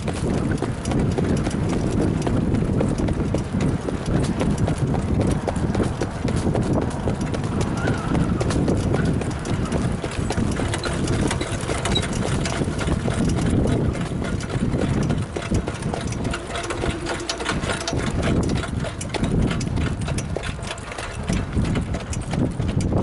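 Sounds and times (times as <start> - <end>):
steady low rumble: 0.0 - 23.0
trotting horse hooves: 0.0 - 23.0.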